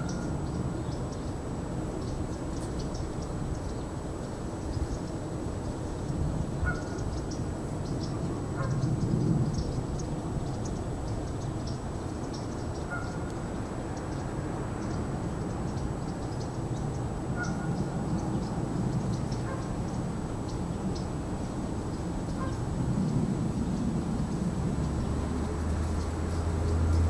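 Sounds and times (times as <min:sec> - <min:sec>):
bird calls and chirps: 0:00.0 - 0:01.3, 0:02.0 - 0:03.9, 0:04.6 - 0:21.2, 0:21.8 - 0:27.0.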